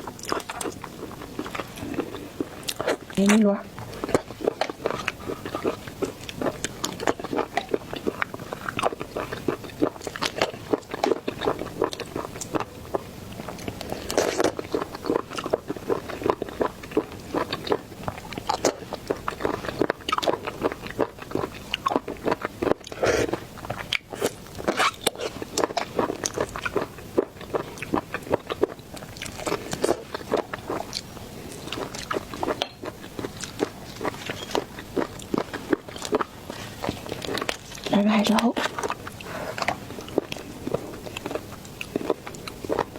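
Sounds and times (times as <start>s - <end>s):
person chewing seafood: 0.0s - 37.9s, 38.5s - 42.9s.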